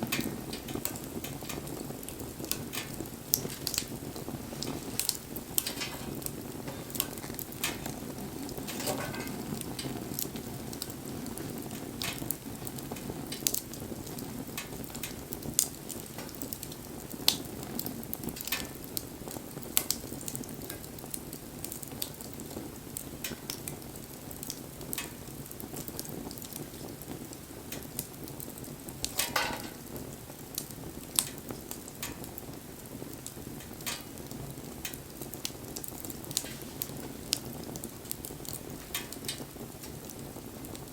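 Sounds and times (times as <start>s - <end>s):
burning wood crackling and popping: 0.0s - 40.9s
campfire flame rushing: 0.0s - 40.9s.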